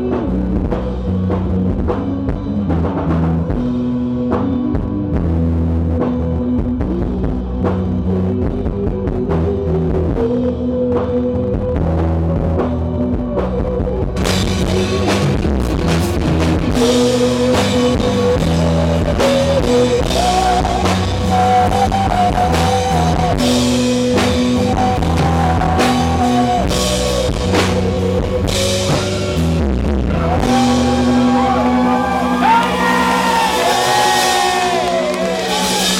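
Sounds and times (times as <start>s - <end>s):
drums: 0.0s - 35.9s
live rock band playing: 0.0s - 35.9s
person singing: 0.0s - 35.9s.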